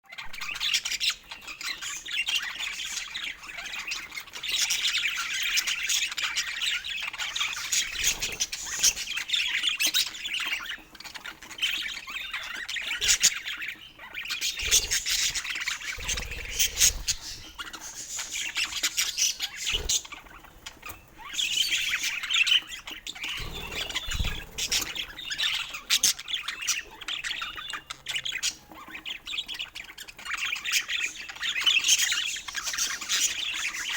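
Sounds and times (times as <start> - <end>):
budgerigars chattering and warbling: 0.1 - 33.9.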